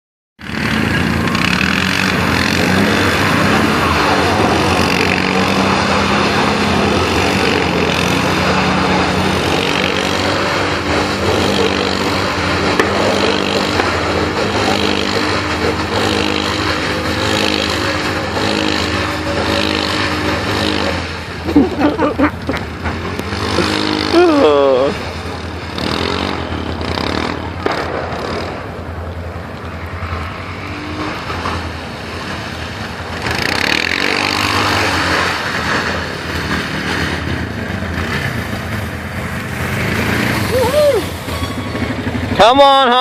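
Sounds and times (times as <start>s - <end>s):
atv engine running: 0.4s - 43.0s
noisy rush: 0.4s - 43.0s.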